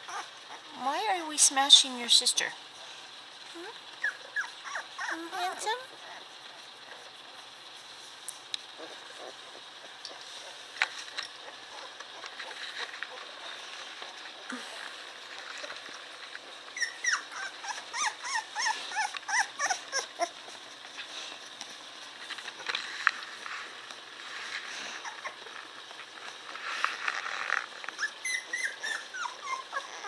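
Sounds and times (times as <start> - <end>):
puppy whining: 0.0 - 0.7, 3.4 - 7.6, 8.7 - 22.8, 23.6 - 30.0.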